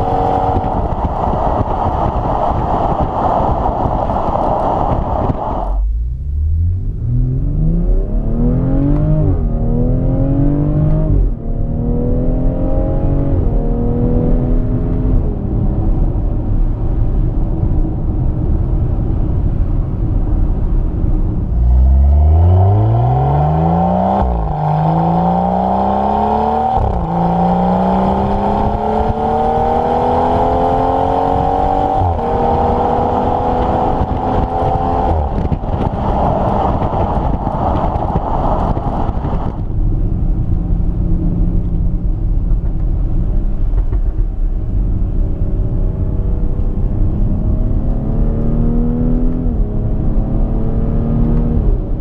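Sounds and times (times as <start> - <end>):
car engine accelerating hard: 0.0 - 17.2, 20.7 - 43.7, 44.6 - 52.0
road noise: 0.0 - 52.0.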